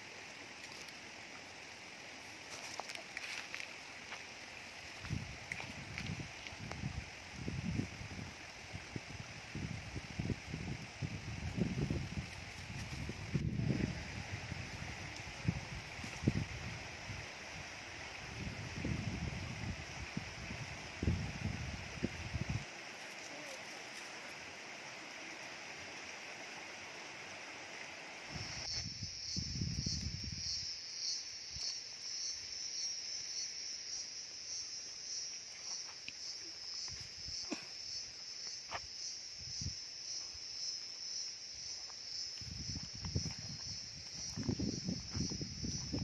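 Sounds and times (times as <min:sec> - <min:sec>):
insects chirping trill: 0:00.0 - 0:46.0
soft hiss: 0:00.0 - 0:46.0.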